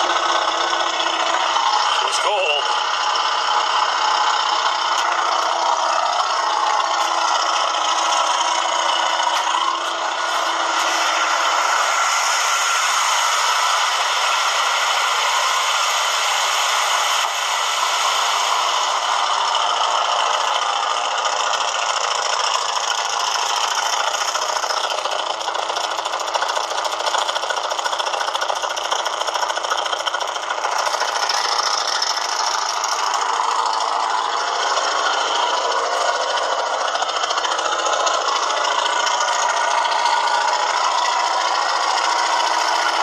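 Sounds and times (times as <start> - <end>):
carbureted engine running: 0.0 - 43.0.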